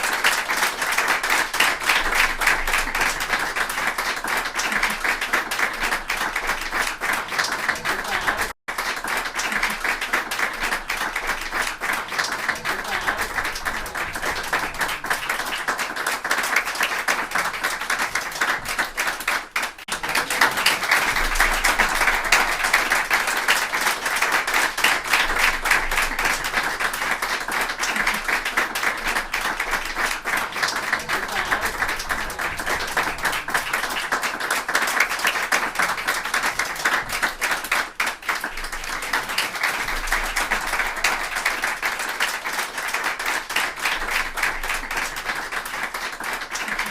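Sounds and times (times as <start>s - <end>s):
crowd applauding: 0.0s - 46.9s.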